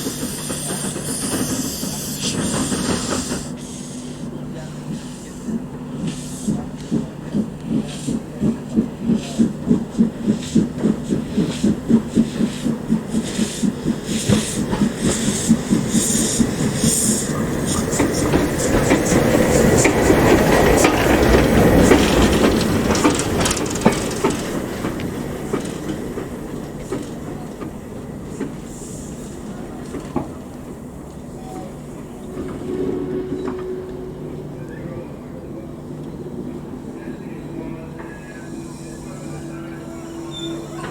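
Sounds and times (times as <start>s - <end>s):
steam train beats: 0.0s - 40.9s
train rumbling by: 0.0s - 40.9s.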